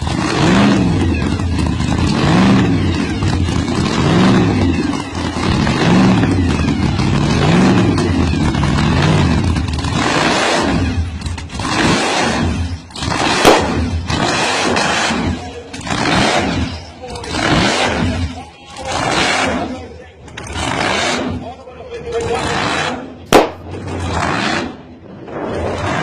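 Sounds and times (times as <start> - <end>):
small gasoline engine revving: 0.0 - 21.5, 22.2 - 25.0, 25.6 - 26.0.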